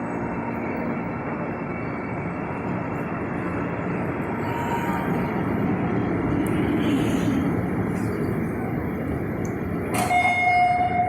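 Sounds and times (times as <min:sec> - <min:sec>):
metro train rumbling on track: 0:00.0 - 0:11.0.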